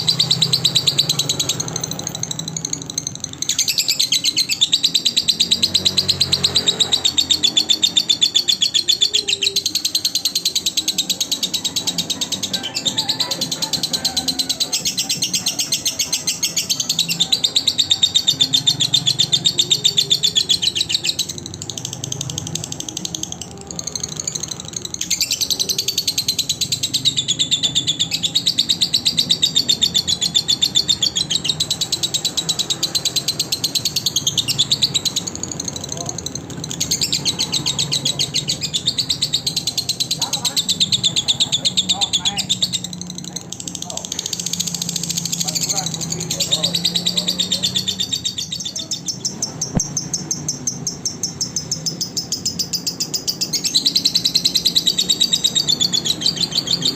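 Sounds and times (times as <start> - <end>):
bird chattering trill: 0.0 - 56.9.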